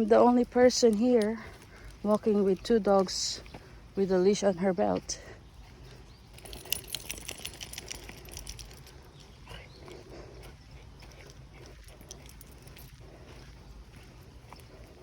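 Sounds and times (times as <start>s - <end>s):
footsteps of people and dogs: 0.0s - 15.0s.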